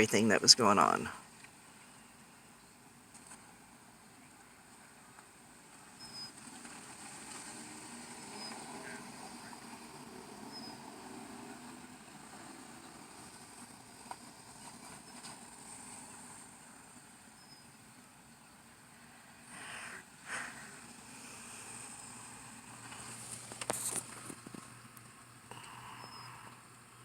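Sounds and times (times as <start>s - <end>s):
faint roadside traffic: 0.0s - 27.0s
steady high hiss: 0.0s - 27.0s.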